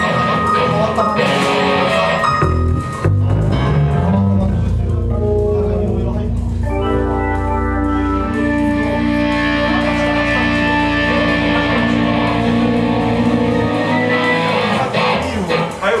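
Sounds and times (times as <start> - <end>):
low bass line: 0.0 - 15.3
organ chords: 0.0 - 15.8.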